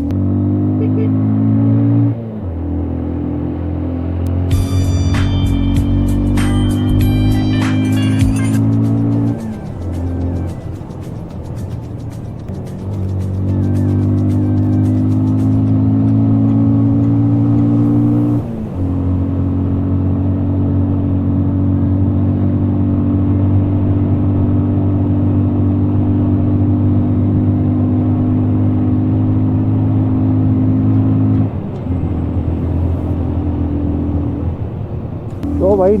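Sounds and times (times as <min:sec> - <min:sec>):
motorcycle engine running: 0:00.0 - 0:34.4, 0:35.2 - 0:36.0.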